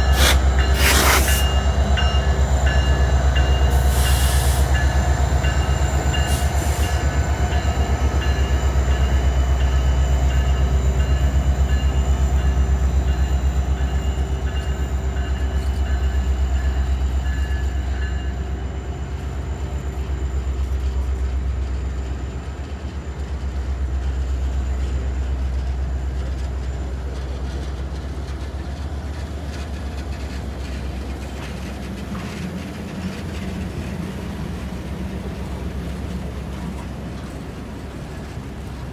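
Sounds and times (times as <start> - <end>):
diesel locomotive engine drone: 0.0 - 38.9.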